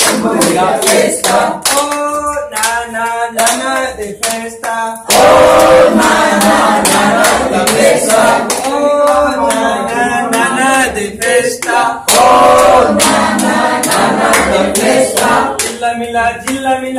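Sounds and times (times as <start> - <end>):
group singing in unison: 0.0 - 16.9
steady hand clapping: 0.0 - 16.9.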